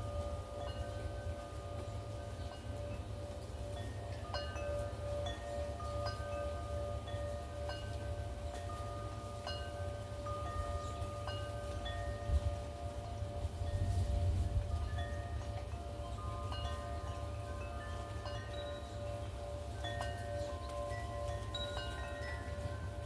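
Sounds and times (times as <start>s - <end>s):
low wind rumble: 0.0s - 23.0s
wind chimes ringing: 0.0s - 23.0s.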